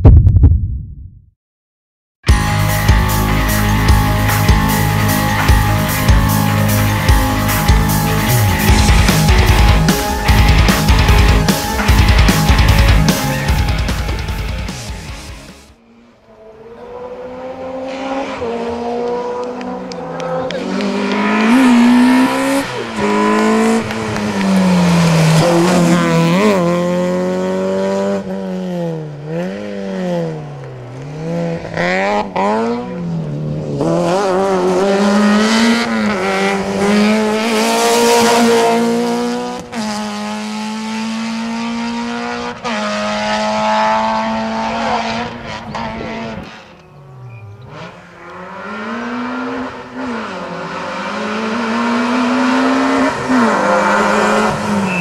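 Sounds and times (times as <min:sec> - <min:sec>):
rally car engine revving: 0:02.8 - 0:15.1, 0:15.8 - 0:55.0.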